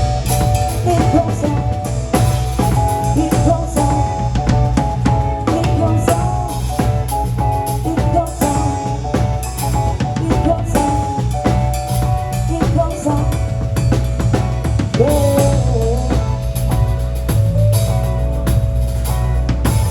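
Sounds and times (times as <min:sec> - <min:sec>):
band playing instrumental music: 0:00.0 - 0:19.9
drum kit hits: 0:00.0 - 0:19.9.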